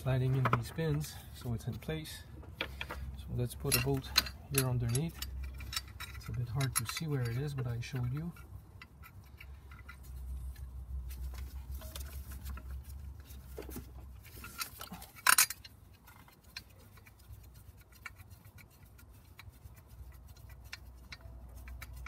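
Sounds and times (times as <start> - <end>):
small clicks and rustles: 2.4 - 22.0.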